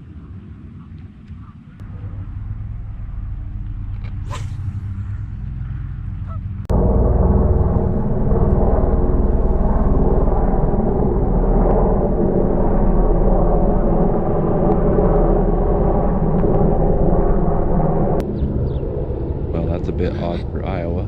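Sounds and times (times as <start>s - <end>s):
droning hum: 0.0s - 21.0s
loud steady rumble: 0.0s - 21.0s.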